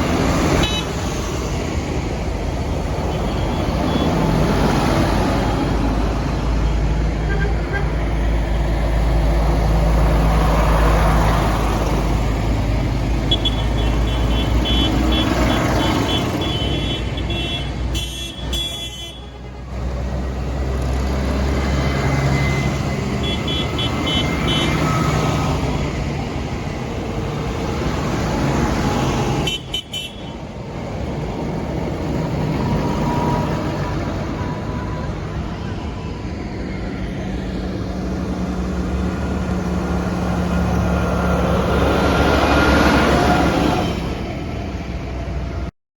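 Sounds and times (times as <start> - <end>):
tractor engines running: 0.0 - 45.7.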